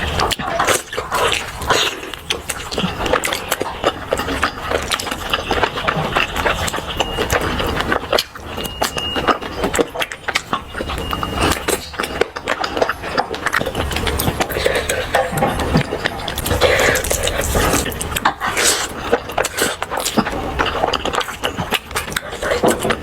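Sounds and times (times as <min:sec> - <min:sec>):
chewing crunchy snack: 0:00.0 - 0:23.0.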